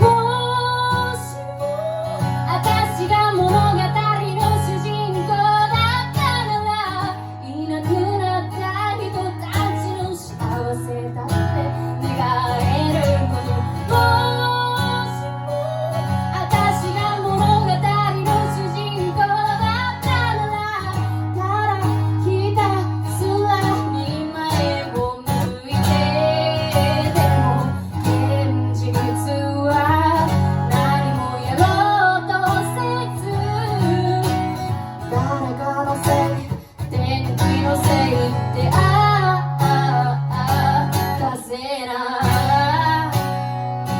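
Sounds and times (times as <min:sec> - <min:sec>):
woman singing: 0:00.0 - 0:43.6
strummed acoustic guitar: 0:00.0 - 0:43.9.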